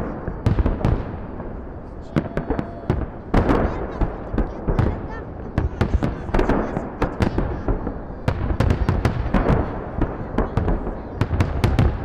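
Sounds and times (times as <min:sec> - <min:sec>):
fireworks bangs and crackles: 0:00.0 - 0:12.0
low rumble of fireworks shells: 0:00.0 - 0:12.0.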